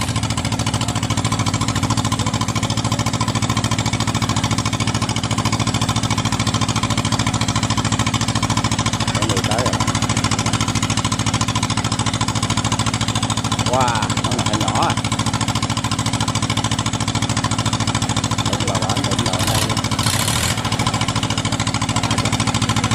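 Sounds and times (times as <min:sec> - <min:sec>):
diesel engine chugging: 0:00.0 - 0:22.9.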